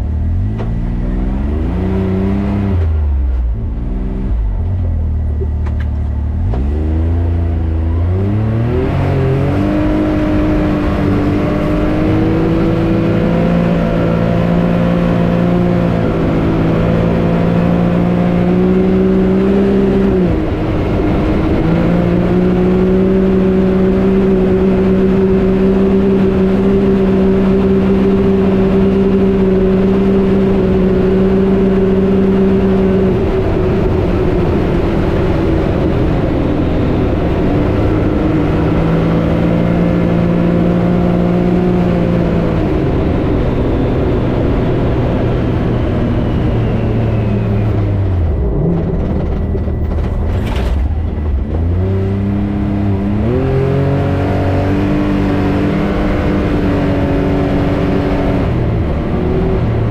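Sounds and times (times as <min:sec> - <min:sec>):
turbocharged engine revving: 0:00.0 - 0:05.6, 0:06.2 - 0:59.9.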